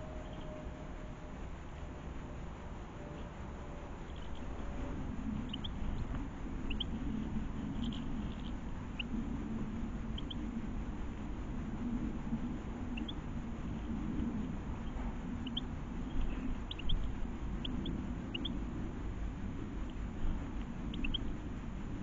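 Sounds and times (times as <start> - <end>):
birds chirping: 0.0 - 1.9, 3.0 - 11.3, 12.0 - 18.8, 19.8 - 21.4
low background rumble: 0.0 - 22.0.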